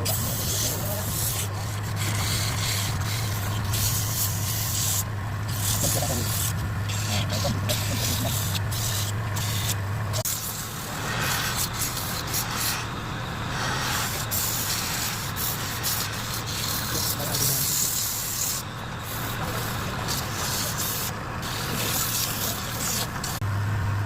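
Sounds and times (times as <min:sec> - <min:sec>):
sanding wood rubbing: 0:00.0 - 0:23.4.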